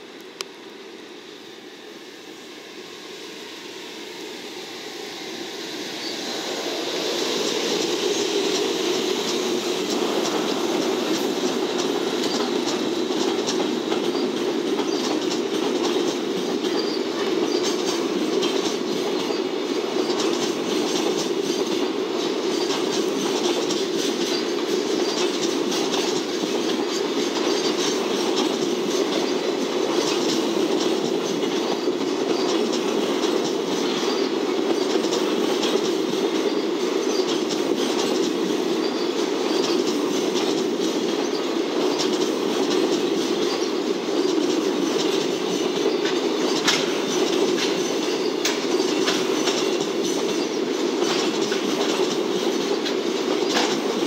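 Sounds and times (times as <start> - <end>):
wheel-on-rail noise: 4.2 - 54.0
wheels clicking over track: 7.8 - 54.0.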